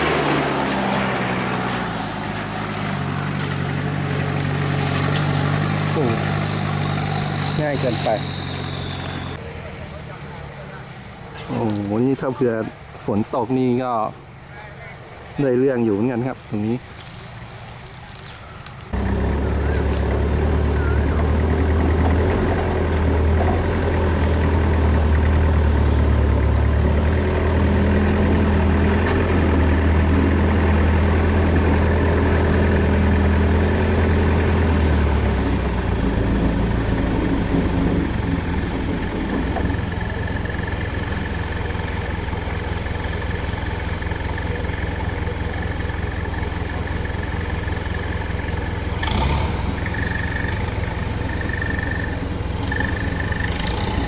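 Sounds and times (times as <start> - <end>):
truck engine low drone: 0.0 - 54.0.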